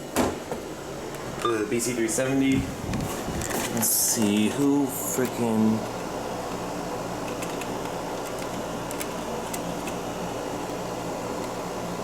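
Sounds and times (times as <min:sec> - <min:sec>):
fan-like room hum: 0:00.0 - 0:12.0.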